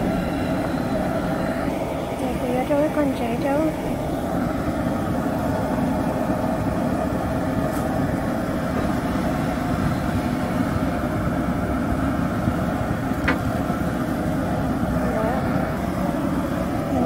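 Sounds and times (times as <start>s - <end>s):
propane burner rushing: 0.0s - 17.0s.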